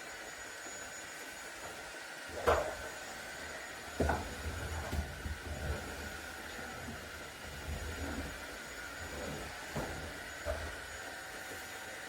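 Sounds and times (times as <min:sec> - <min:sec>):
stick vacuum whining: 0:00.0 - 0:12.0.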